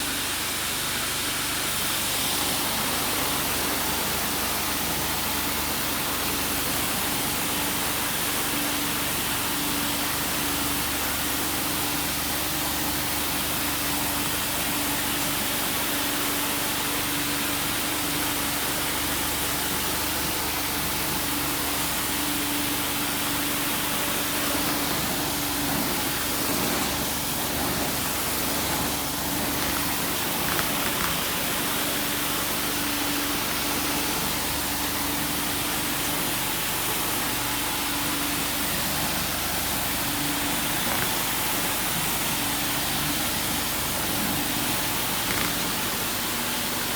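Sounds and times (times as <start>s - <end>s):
machine running with hiss: 0.0s - 46.9s.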